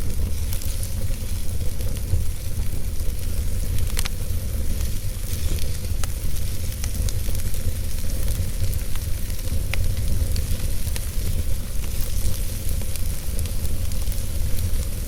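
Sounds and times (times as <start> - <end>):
burning logs crackling: 0.0 - 15.0
fire rumbling and hissing: 0.0 - 15.0.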